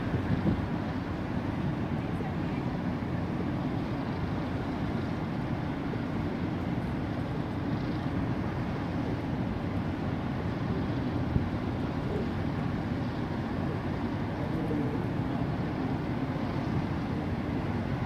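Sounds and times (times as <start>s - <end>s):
ferry engines rumbling: 0.0s - 18.0s
rush of ship wash: 0.0s - 18.0s.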